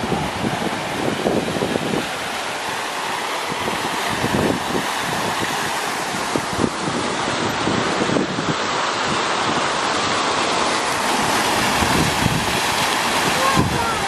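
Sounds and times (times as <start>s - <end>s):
fountain jets splashing into pond: 0.0s - 14.0s
wind buffeting microphone: 0.0s - 14.0s.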